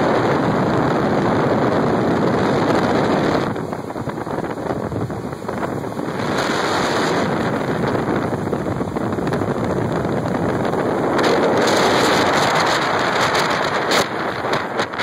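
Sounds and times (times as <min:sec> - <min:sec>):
water rushing under boat hull: 0:00.0 - 0:15.0
wind buffeting microphone: 0:00.0 - 0:15.0.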